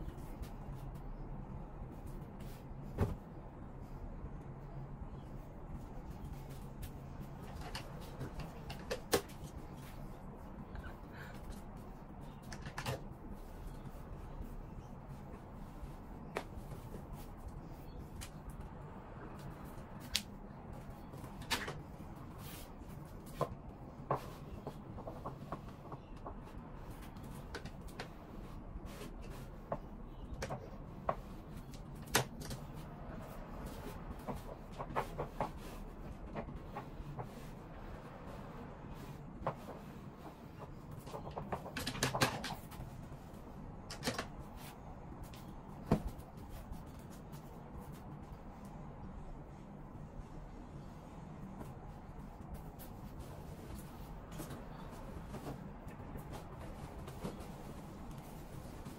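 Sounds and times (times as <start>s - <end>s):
clothes rustling: 0.0s - 58.9s.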